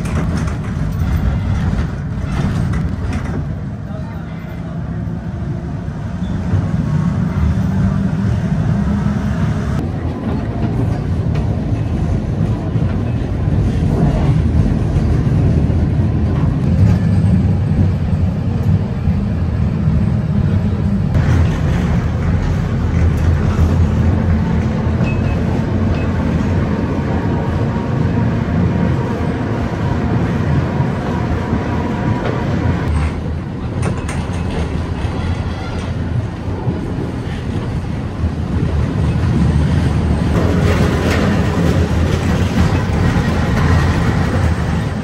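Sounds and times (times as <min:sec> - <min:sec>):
tram rumbling on rails: 0:00.0 - 0:45.0.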